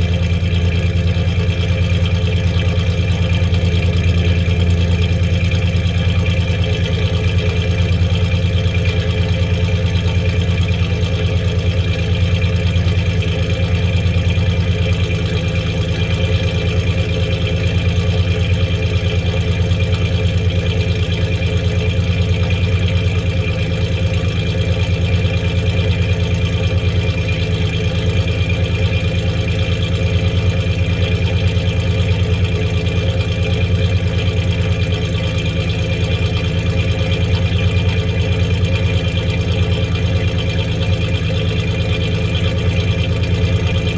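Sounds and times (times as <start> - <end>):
engine idling with misfire: 0.0 - 43.9.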